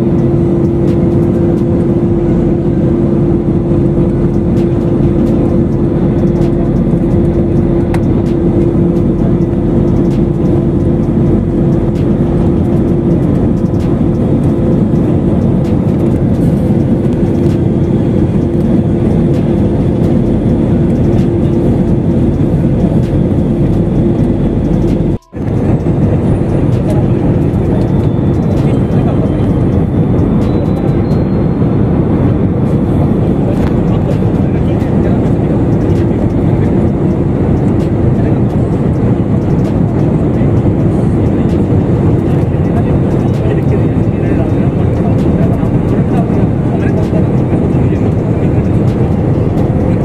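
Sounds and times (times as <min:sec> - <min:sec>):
droning hum: 0:00.0 - 0:50.0
jet engine and airflow roar: 0:00.0 - 0:50.0.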